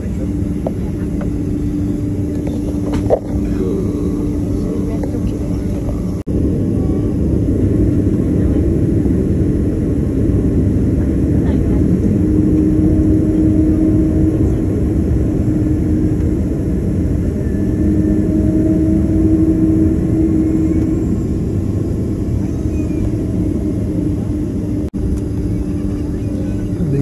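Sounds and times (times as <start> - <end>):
constant low hum: 0.0 - 27.0
jet engine roar in cabin: 0.0 - 27.0.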